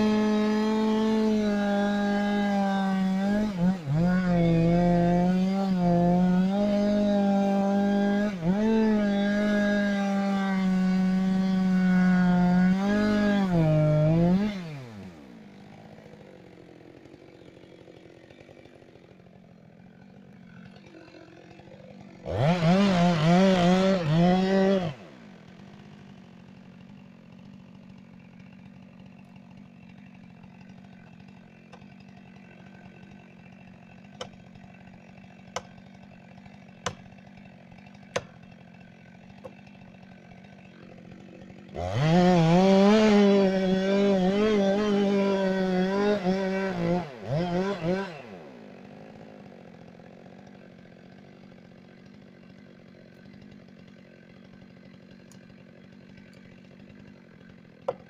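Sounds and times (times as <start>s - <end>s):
chainsaw cutting and idling: 0.0s - 58.0s.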